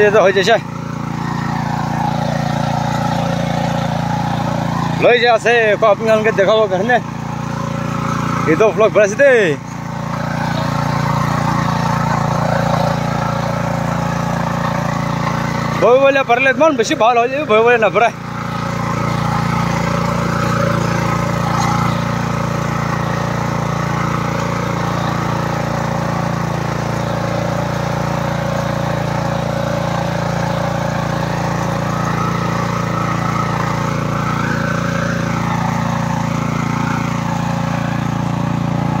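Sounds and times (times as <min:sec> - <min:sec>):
power tiller engine running: 0:00.0 - 0:39.0.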